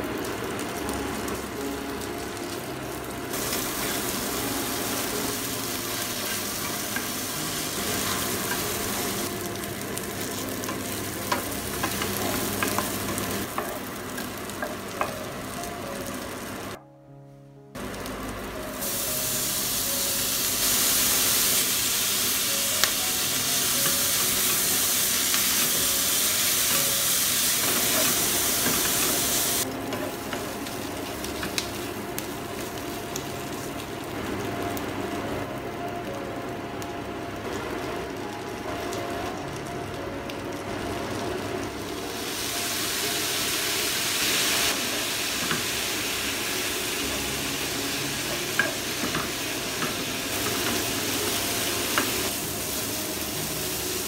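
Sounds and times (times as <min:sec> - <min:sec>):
food sizzling in hot oil: 0:00.0 - 0:16.8, 0:17.8 - 0:35.0, 0:41.1 - 0:54.0.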